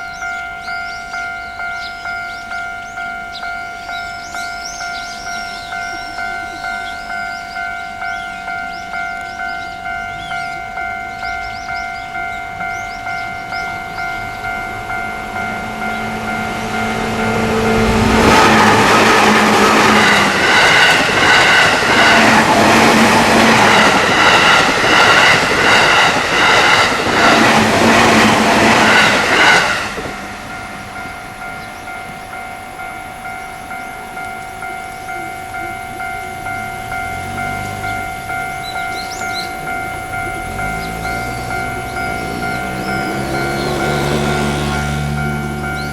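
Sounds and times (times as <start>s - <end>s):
level-crossing warning bell: 0.0s - 45.9s
train wheels clacking over rails: 4.3s - 45.9s.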